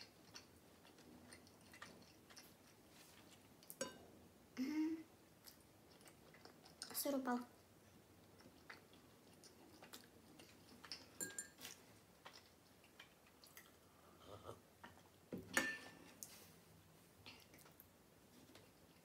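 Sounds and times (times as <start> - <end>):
faint chewing with mouth clicks: 0.0 - 19.0.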